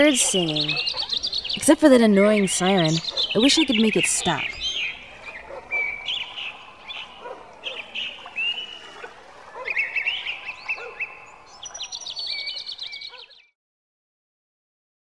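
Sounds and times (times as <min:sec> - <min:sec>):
birds chirping and whistling: 0:00.0 - 0:13.5.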